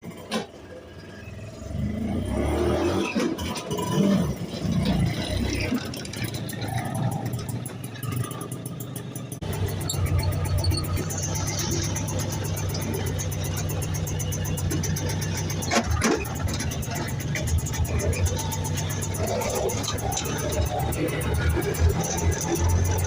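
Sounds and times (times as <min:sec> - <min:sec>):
two-stroke engine revving unevenly: 0:00.0 - 0:23.0.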